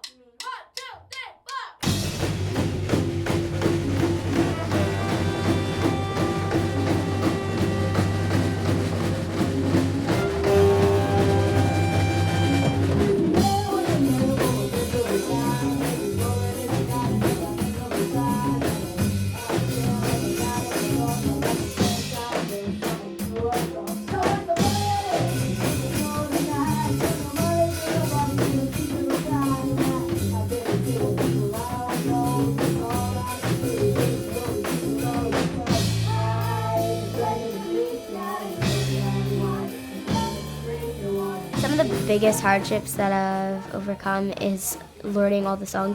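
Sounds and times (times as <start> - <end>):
drum kit beat: 0.0 - 45.9
rock band playing: 1.8 - 44.3.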